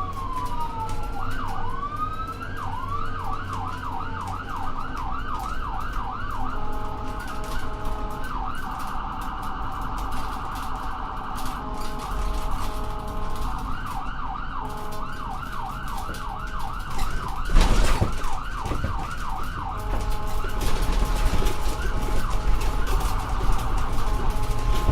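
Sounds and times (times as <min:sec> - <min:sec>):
engine rumble: 0:00.0 - 0:24.9
lower two-note siren: 0:00.0 - 0:24.9
siren yelping: 0:00.0 - 0:24.9.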